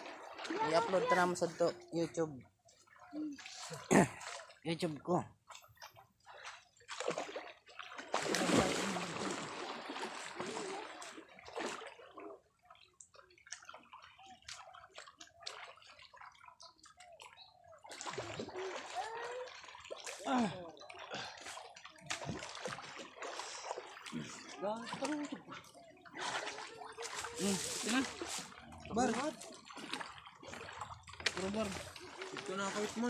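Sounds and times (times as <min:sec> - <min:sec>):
river water splashing: 0:00.0 - 0:33.0.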